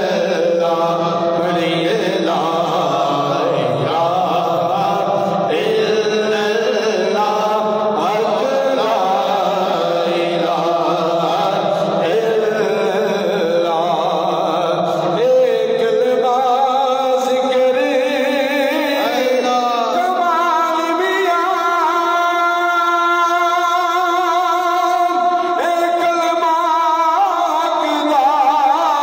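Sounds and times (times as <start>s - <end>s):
man chanting devotional recitation: 0.0s - 29.0s.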